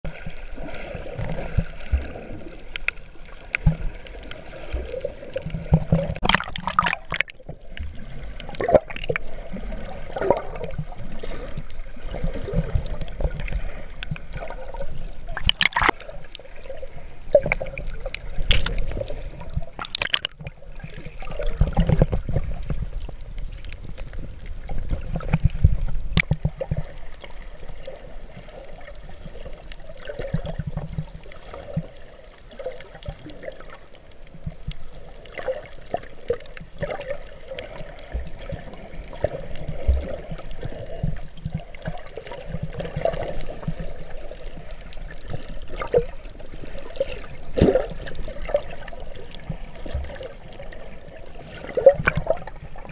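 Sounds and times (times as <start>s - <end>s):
underwater sloshing and gurgling: 0.0s - 52.9s.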